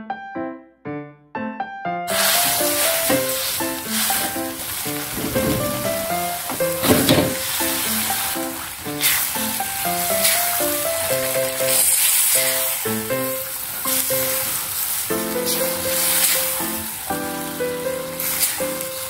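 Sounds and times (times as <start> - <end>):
light melodic background music: 1.9 - 19.0
fish sizzling in hot oil: 2.1 - 19.0.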